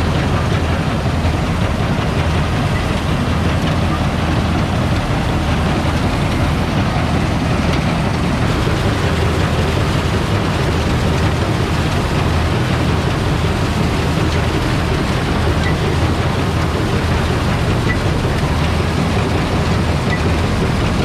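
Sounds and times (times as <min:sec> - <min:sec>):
harvesting machine engine drone: 0:00.0 - 0:21.0.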